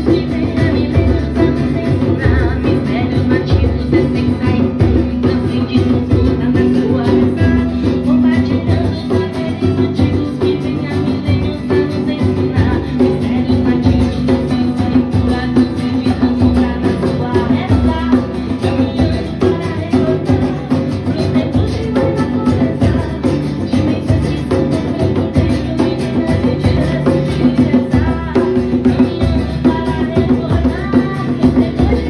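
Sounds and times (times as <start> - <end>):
devotional band with guitar and drums: 0.0 - 32.0.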